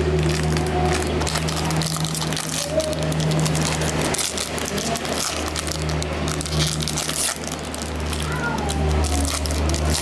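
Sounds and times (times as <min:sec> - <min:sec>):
foil wrapper crinkling: 0:00.0 - 0:10.0
steady low hum: 0:00.0 - 0:10.0.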